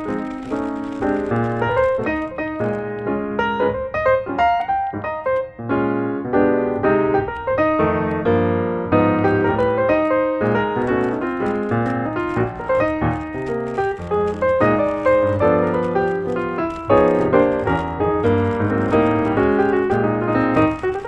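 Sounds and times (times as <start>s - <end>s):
fast piano music: 0.0s - 21.0s.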